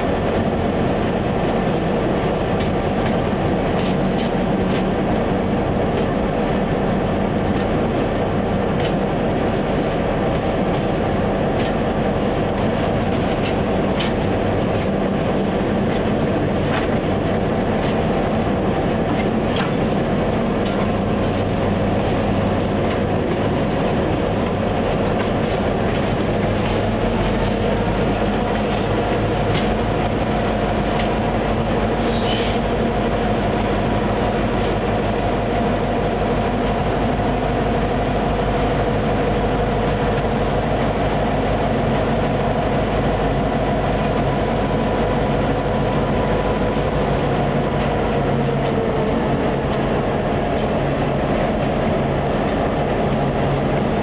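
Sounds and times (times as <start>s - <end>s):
diesel locomotive engine: 0.0s - 54.0s
train rumble: 0.0s - 54.0s.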